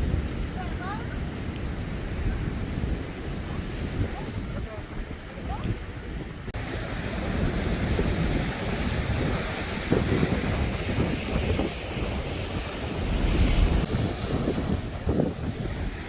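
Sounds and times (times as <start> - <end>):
rough surf: 0.0 - 16.0
strong wind gusting: 0.0 - 16.0.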